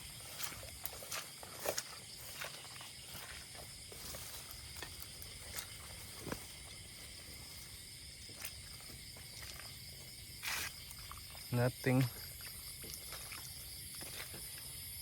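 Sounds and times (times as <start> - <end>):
night insects buzzing: 0.0 - 15.0.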